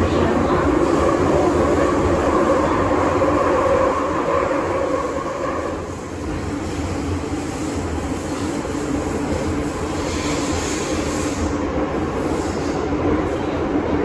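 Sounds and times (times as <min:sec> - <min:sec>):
train rumbling through tunnel: 0:00.0 - 0:14.0.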